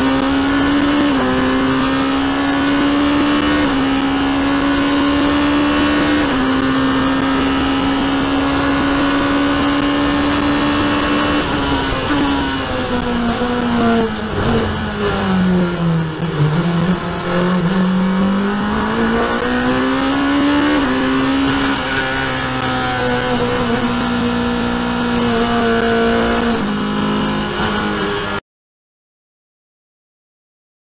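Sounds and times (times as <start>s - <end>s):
racing car engine revving: 0.0s - 28.4s.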